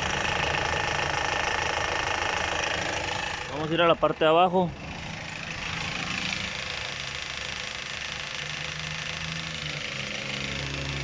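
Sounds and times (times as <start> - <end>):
fast light engine knocking: 0.0 - 3.9, 5.3 - 11.0
car engine idling: 0.0 - 11.0.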